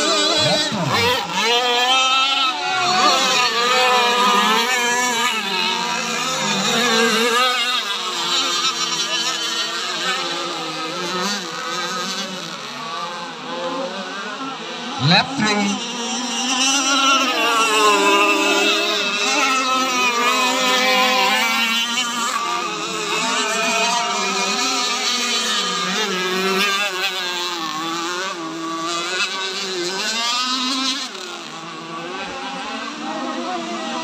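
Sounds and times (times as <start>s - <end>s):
racing powerboat engines whining: 0.0s - 34.0s.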